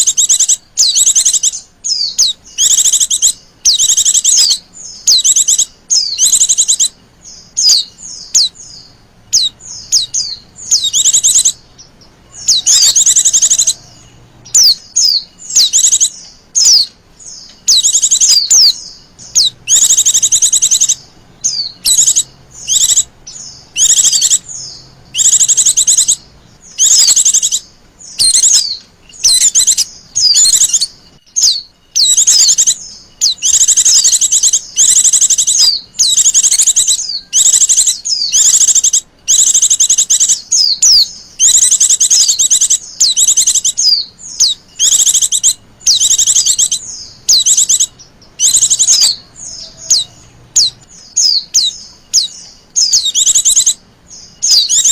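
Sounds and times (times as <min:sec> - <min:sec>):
bird chirping trills: 0:00.0 - 0:54.9.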